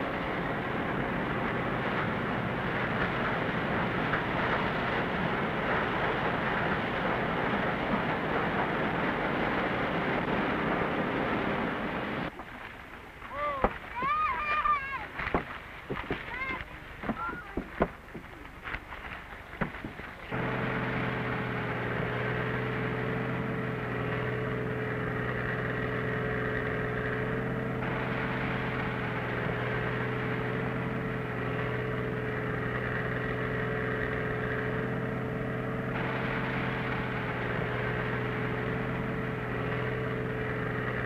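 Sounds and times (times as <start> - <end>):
corn picker engine droning: 0.0 - 41.0.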